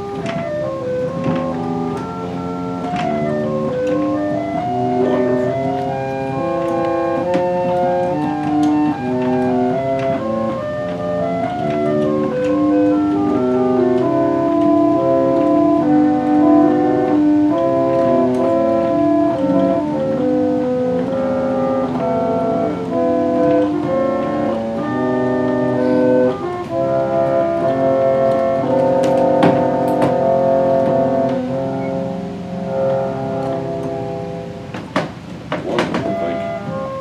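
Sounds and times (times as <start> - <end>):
reed organ playing chords: 0.0 - 37.0.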